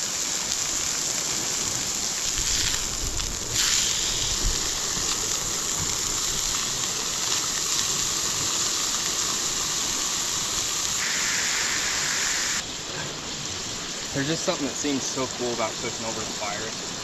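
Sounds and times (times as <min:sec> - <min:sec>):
burgers sizzling: 0:00.0 - 0:17.0
fire crackles: 0:00.0 - 0:17.0.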